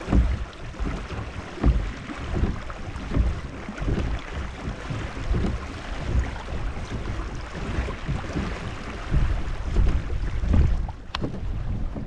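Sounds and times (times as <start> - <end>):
paddle stroke thuds: 0.0 - 12.0
wind on microphone: 0.0 - 12.0.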